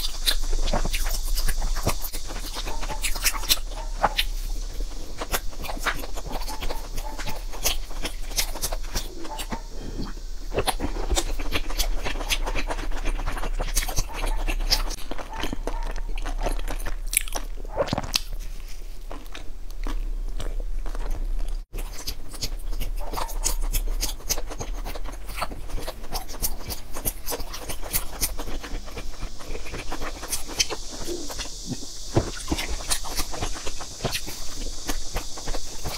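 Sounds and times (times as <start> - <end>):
steady high hiss: 0.0 - 17.6, 18.2 - 35.9
chewing soft cakes: 0.0 - 35.9
mouth clicks: 0.0 - 35.9.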